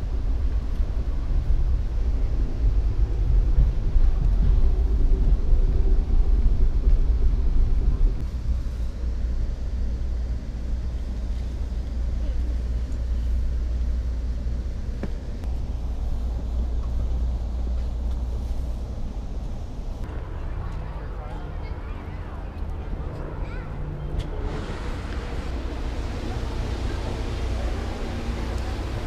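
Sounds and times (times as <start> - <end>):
passenger train rumbling: 0.0 - 29.0.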